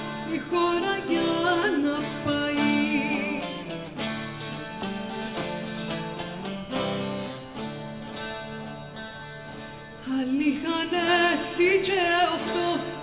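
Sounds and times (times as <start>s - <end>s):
plucked lute: 0.0s - 13.0s.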